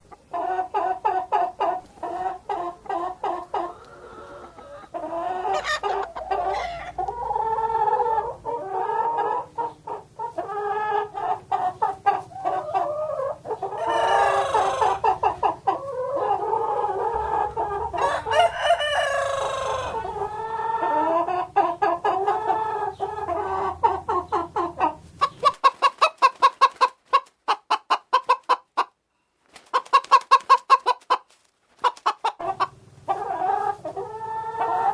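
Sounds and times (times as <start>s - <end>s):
hens clucking and cackling: 0.0s - 29.0s, 29.6s - 34.9s.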